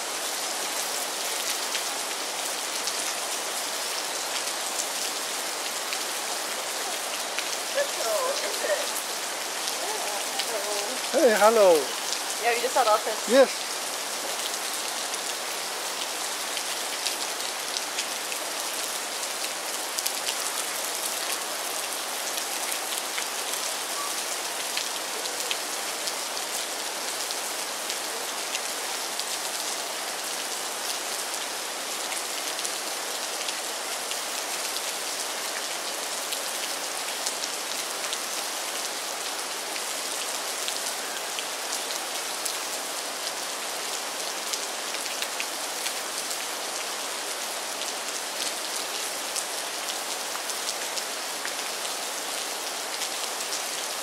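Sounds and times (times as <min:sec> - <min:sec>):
rain falling on water: 0:00.0 - 0:54.0.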